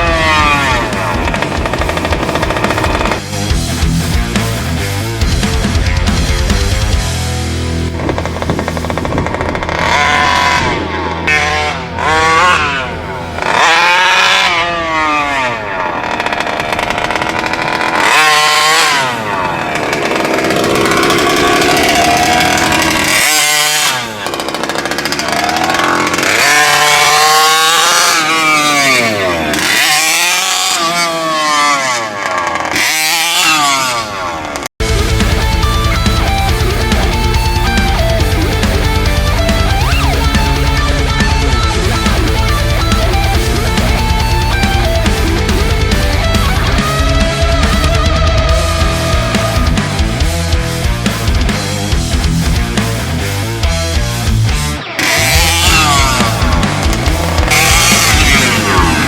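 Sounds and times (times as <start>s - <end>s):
model truck engine revving: 0.0s - 59.0s.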